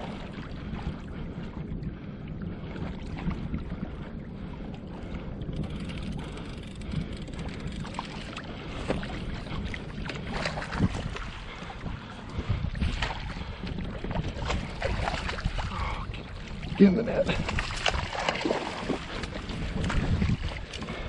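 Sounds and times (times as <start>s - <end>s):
water splashing around a kayak: 0.0s - 21.0s
wind on microphone: 0.0s - 21.0s.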